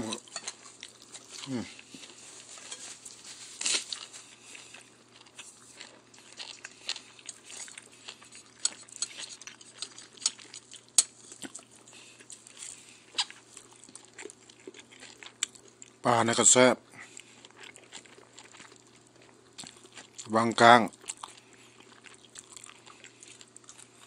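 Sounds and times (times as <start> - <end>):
chewing and crunching food: 0.0 - 16.2, 16.9 - 24.0.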